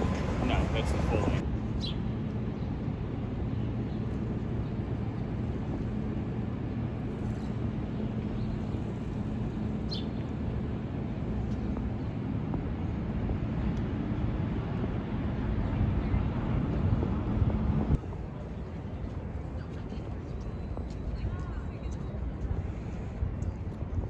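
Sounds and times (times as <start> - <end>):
constant low hum: 0.0 - 24.0
street traffic rumble: 0.0 - 24.0.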